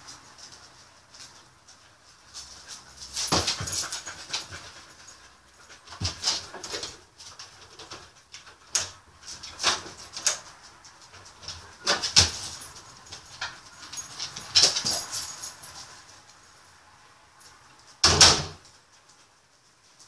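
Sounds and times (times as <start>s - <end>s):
dog paws scrabbling at door: 0.0s - 16.4s.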